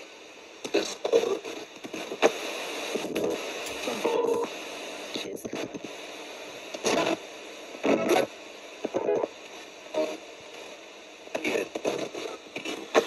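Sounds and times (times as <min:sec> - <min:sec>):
radio static hiss: 0:00.0 - 0:13.0
snatches of radio broadcast: 0:00.6 - 0:13.0.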